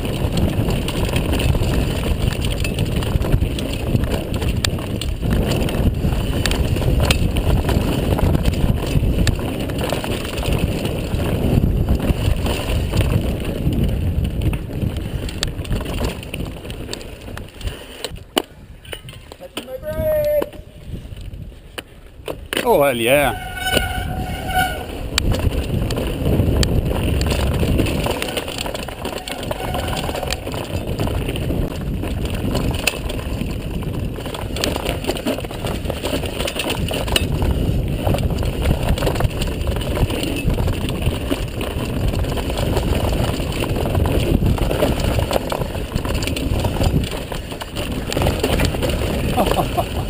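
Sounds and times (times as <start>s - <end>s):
bike chain rattling and clicking: 0.0s - 50.0s
bike tyres on dirt: 0.0s - 50.0s
wind buffeting microphone: 0.0s - 50.0s.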